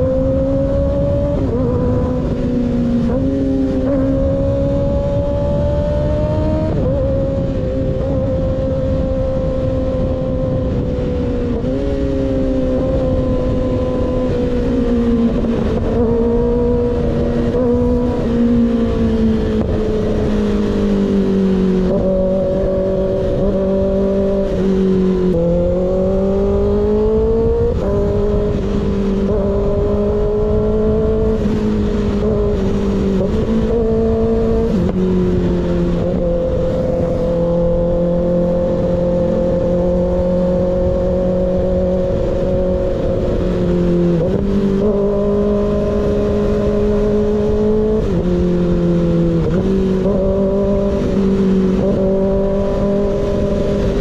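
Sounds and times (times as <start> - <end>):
motorcycle engine riding under load: 0.0 - 54.0.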